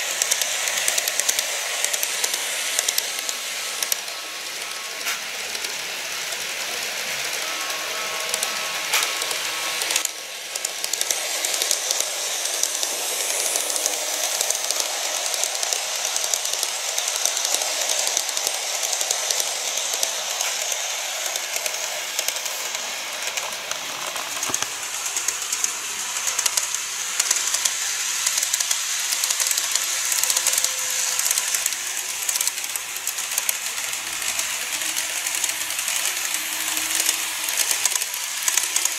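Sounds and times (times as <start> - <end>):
faint motor whine: 0.0 - 38.9
model train motors whirring: 0.0 - 38.9
wheels clicking over rail joints: 0.0 - 38.9.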